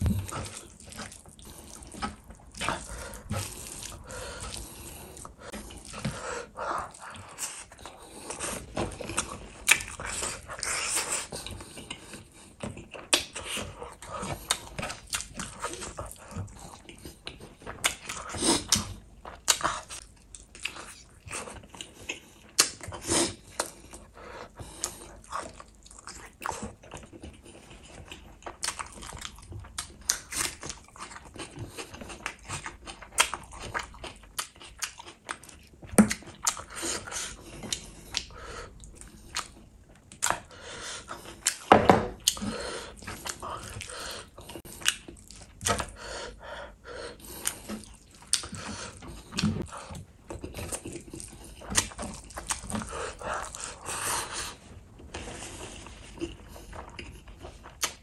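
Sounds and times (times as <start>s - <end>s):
wet chewing and smacking: 0.0s - 58.0s.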